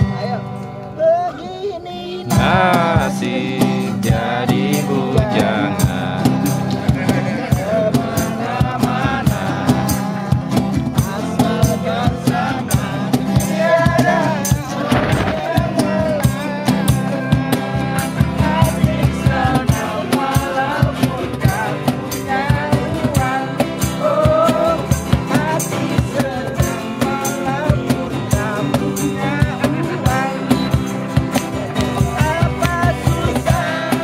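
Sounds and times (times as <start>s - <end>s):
strummed acoustic guitars: 0.0s - 34.0s
men singing together: 1.3s - 34.0s
percussion steady beat: 2.3s - 34.0s.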